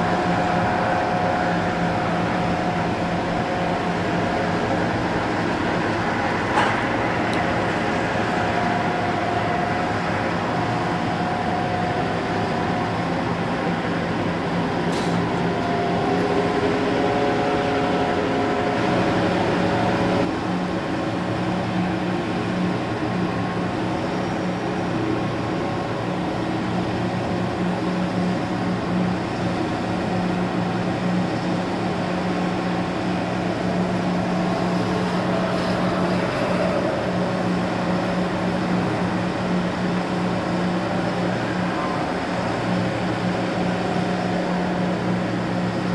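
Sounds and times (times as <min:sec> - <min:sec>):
diesel engines droning: 0:00.0 - 0:45.9.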